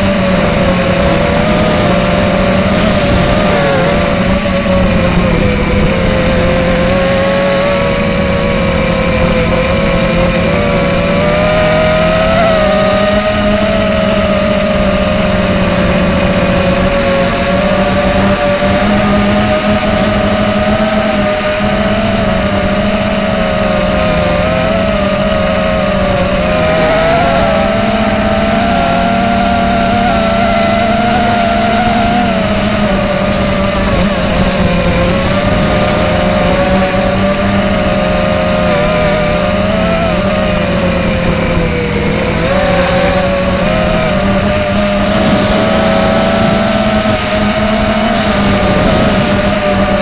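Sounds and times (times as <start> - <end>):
drone motors buzzing: 0.0 - 50.0.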